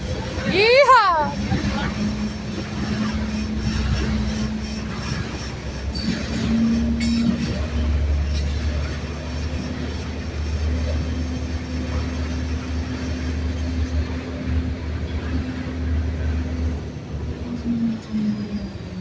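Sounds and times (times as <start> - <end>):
train passing rumble: 0.0 - 19.0.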